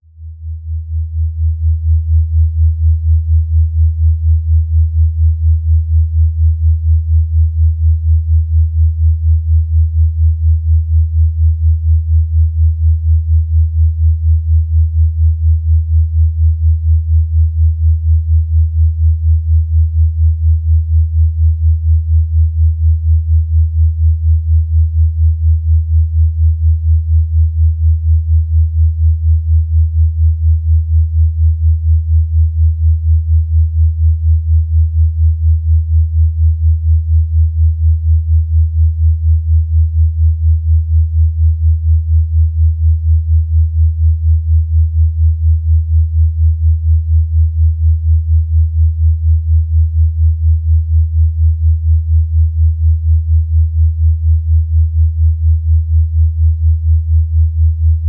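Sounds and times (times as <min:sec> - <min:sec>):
pulsing low sine tone: 0:00.0 - 0:58.0.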